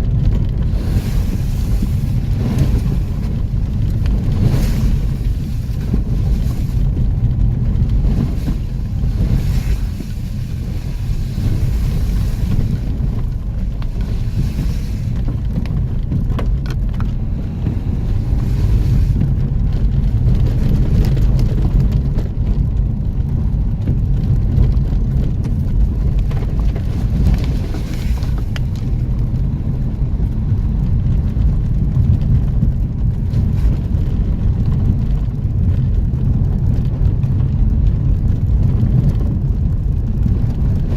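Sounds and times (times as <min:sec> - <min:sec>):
off-road vehicle engine rumble: 0:00.0 - 0:40.9.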